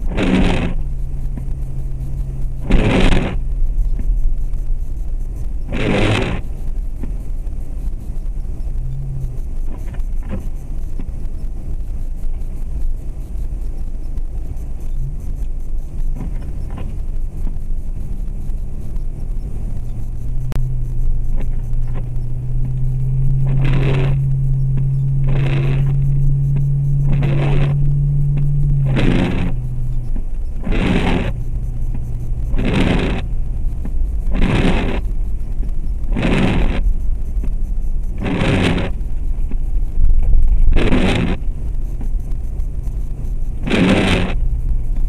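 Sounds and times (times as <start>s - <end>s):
rushing scrape: 0.0s - 6.6s, 14.6s - 44.9s
car engine and road rumble: 0.0s - 45.0s.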